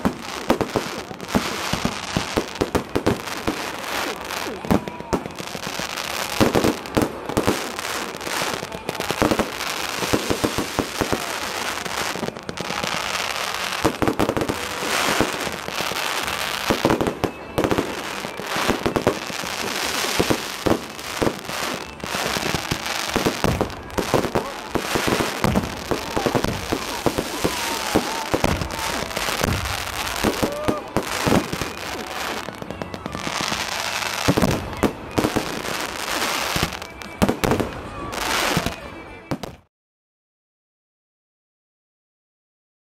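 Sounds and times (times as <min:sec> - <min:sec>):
fireworks bangs and crackles: 0:00.0 - 0:39.7.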